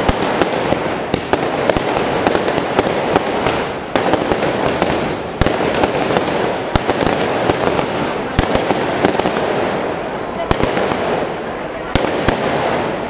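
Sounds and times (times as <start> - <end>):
firecrackers cracking: 0.0 - 13.0.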